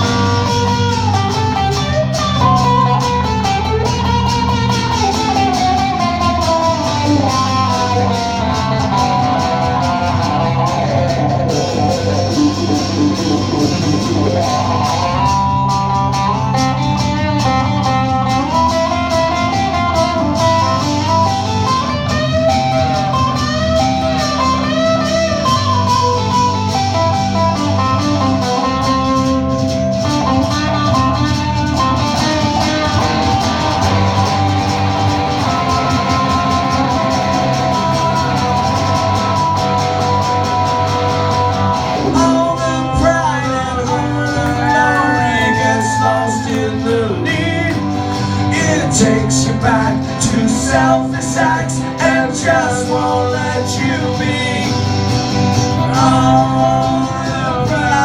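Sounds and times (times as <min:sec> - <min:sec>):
lead guitar melody with bent notes: 0:00.0 - 0:58.0
strummed guitar chords: 0:00.0 - 0:58.0.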